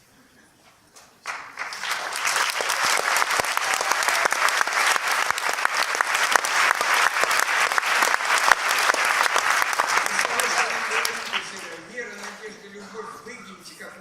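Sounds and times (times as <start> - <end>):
audience applause: 1.2 - 12.5.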